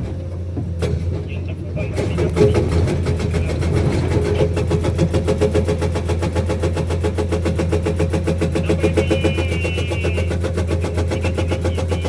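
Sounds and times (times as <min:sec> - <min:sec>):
diesel engine running: 0:00.0 - 0:12.0
hydraulic breaker hammering: 0:00.0 - 0:12.0.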